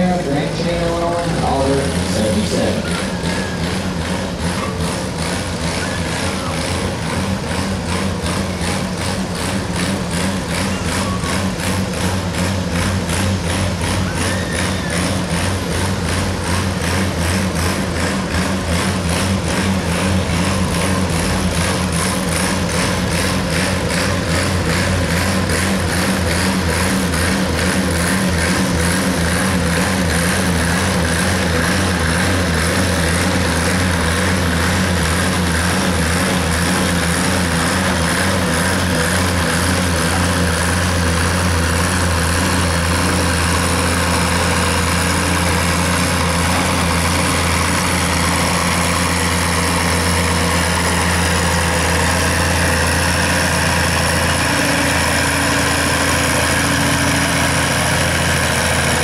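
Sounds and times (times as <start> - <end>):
tractor engine pulling under load: 0.0 - 59.0.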